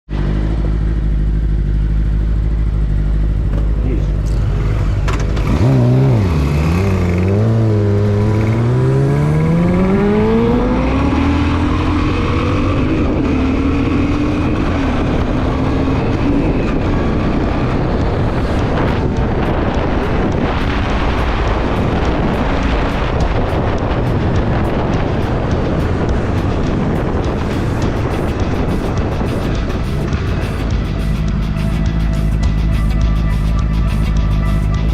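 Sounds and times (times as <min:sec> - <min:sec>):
motorcycle engine accelerating: 0:00.1 - 0:34.9
wind rush: 0:04.5 - 0:33.0.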